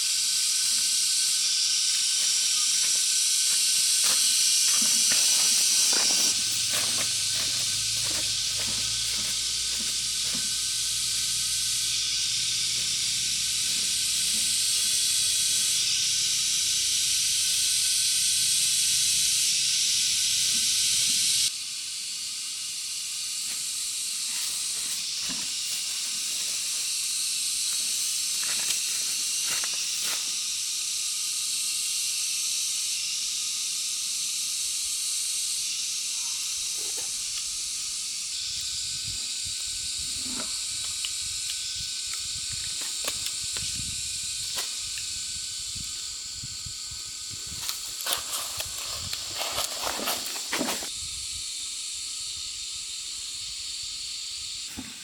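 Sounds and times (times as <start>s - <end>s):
high-pitched outdoor hiss: 0.0s - 55.0s.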